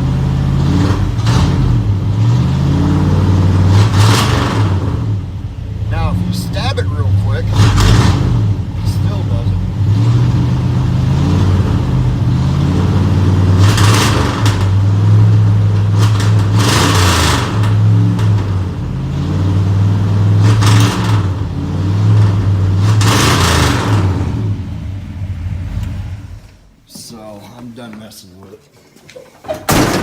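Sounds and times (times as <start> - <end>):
truck engine idling: 0.0 - 20.4, 21.3 - 26.9
engine revving: 0.0 - 26.8.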